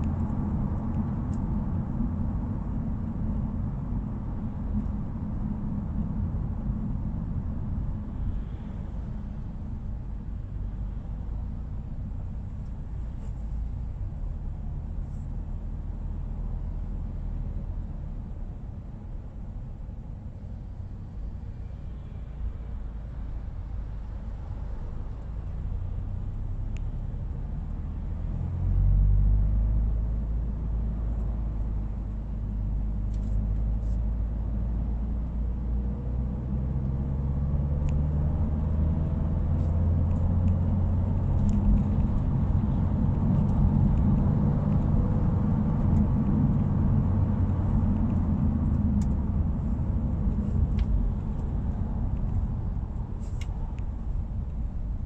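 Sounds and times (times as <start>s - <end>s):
car engine and exhaust rumbling: 0.0s - 55.0s.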